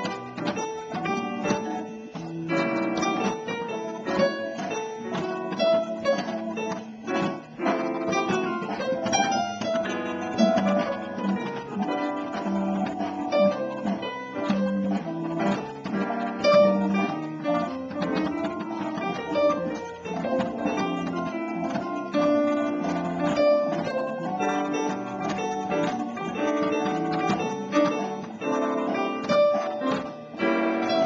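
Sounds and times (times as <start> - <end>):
backing track: 0.0 - 31.0
jazz piano solo: 0.0 - 31.0
walking bass line: 0.0 - 31.0.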